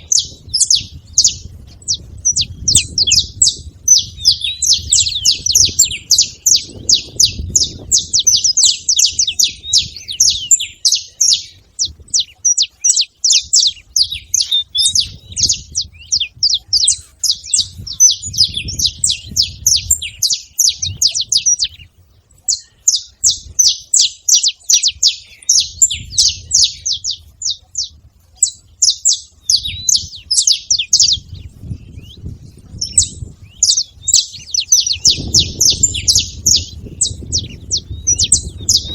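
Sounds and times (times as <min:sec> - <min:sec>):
finch chirping and singing: 0:00.0 - 0:38.9.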